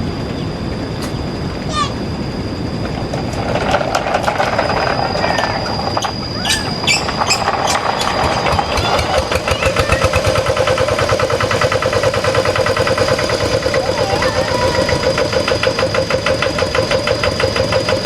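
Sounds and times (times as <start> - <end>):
tractor engine chugging: 3.5 - 18.0.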